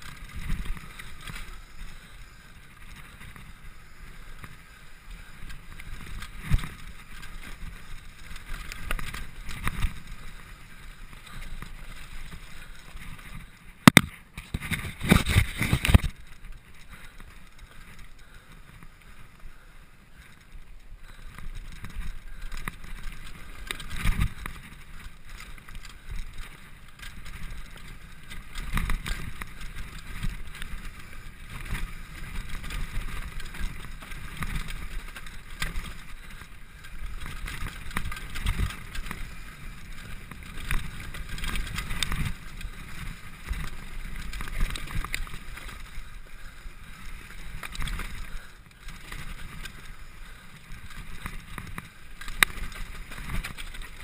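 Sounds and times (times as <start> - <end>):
bike knocking and rattling: 0.0 - 54.0
bike tyres on gravel: 0.0 - 54.0.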